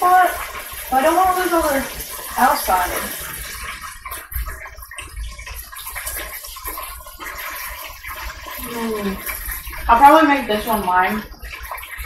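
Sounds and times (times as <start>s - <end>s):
chicken frying in oil: 0.0s - 12.0s.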